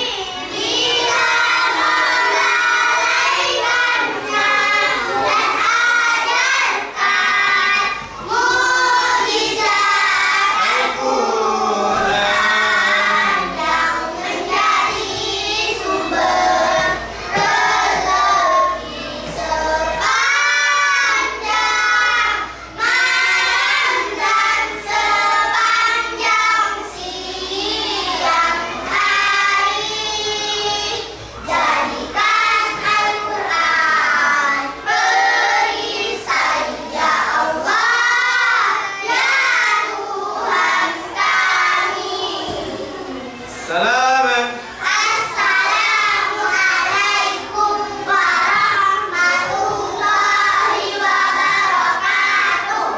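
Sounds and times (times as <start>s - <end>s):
children chanting in unison: 0.0s - 52.9s.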